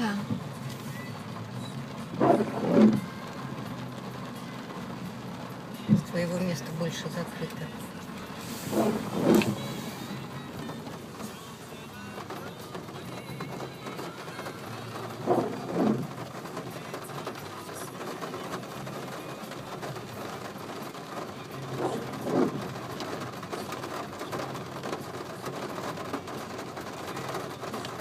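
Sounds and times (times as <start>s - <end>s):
heavy rain drumming on car: 0.0s - 28.0s
windscreen wipers swishing: 0.0s - 28.0s.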